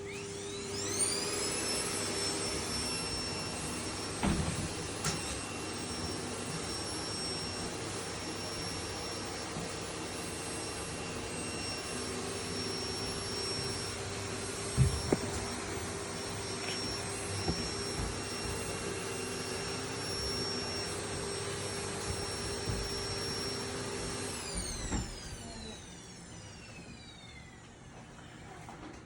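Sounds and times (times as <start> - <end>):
vacuum cleaner motor whine: 0.0 - 29.0.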